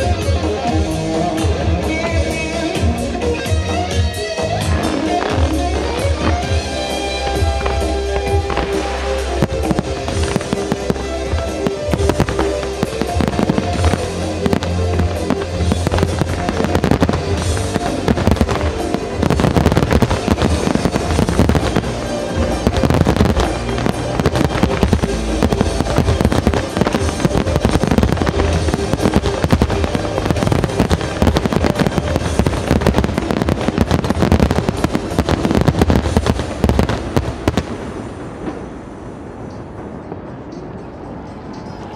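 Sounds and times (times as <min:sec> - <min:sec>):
music: 0:00.0 - 0:38.7, 0:39.4 - 0:41.9
fireworks bursting and crackling: 0:00.0 - 0:40.7.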